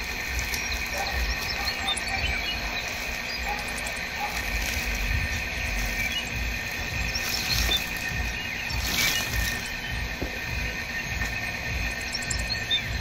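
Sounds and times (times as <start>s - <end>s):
bird chirps: 0.0s - 13.0s
high insect drone: 0.0s - 13.0s
low rumble: 2.2s - 13.0s.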